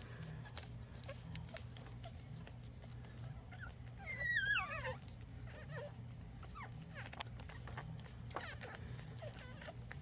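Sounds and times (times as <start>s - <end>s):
puppy crying: 0.0s - 10.0s
puppy squeaks: 0.2s - 10.0s.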